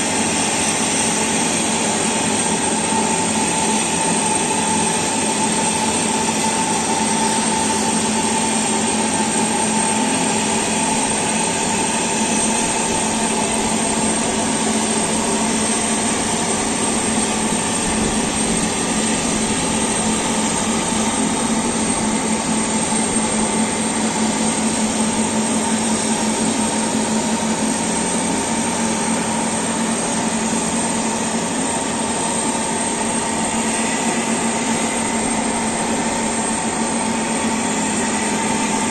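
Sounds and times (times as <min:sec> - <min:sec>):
aircraft turbine running: 0:00.0 - 0:38.9.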